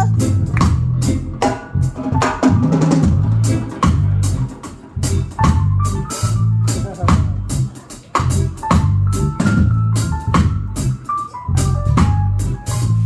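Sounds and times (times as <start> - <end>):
deep bass line: 0.0 - 13.0
drum kit: 0.0 - 13.0.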